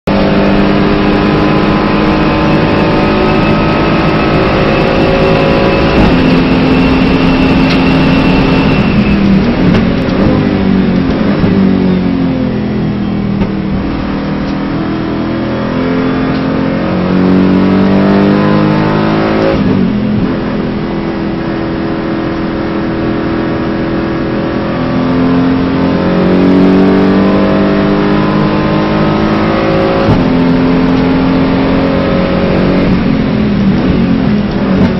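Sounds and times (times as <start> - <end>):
race car engine revving and shifting: 0.0 - 34.9.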